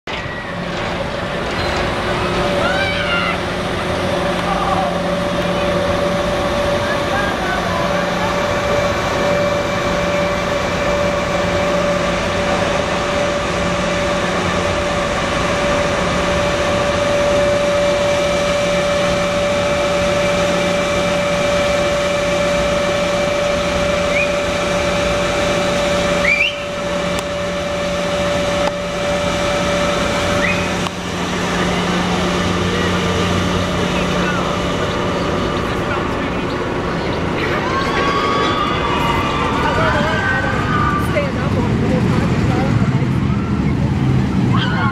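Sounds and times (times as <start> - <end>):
steady machine hum: 0.1 - 44.9.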